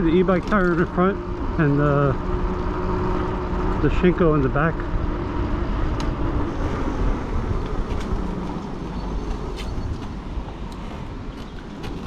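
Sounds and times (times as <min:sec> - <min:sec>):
tyre and road noise: 0:00.0 - 0:12.0
wind rumbling on microphone: 0:00.0 - 0:12.0.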